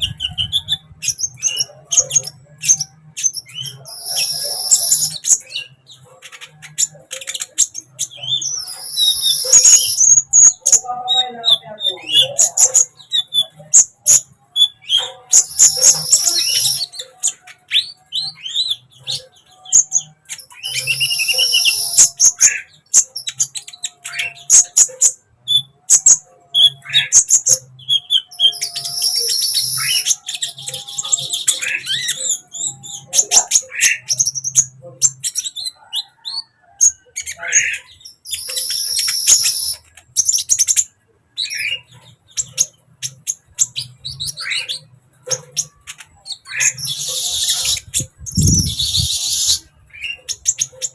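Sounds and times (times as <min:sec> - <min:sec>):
sunbird chirps and trills: 0:00.0 - 0:36.2, 0:37.2 - 0:50.9.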